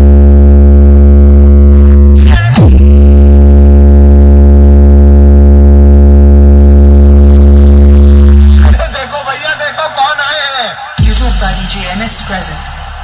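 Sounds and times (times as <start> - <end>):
deep bass drone: 0.0 - 9.0, 11.0 - 13.0.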